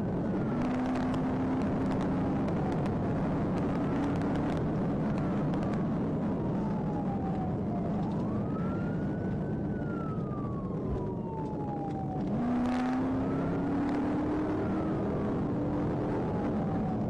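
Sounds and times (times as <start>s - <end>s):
police siren wailing: 0.0s - 17.0s
vehicle engine and road noise: 0.0s - 17.0s.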